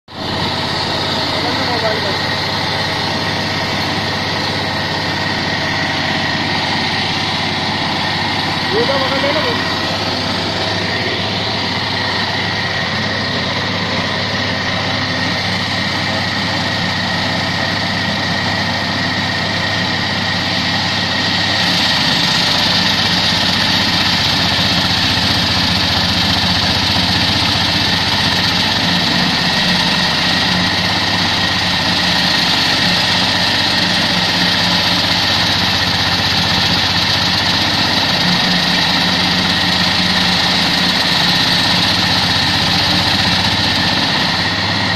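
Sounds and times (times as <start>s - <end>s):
blade cutting wet concrete: 0.1s - 44.9s
concrete cutter engine humming: 0.1s - 44.9s.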